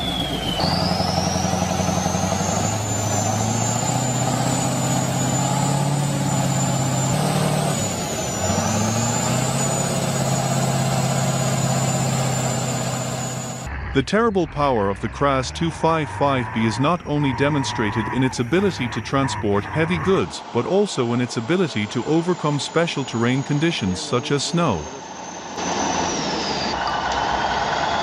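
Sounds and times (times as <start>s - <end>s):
heavy truck diesel engine: 0.0s - 28.0s.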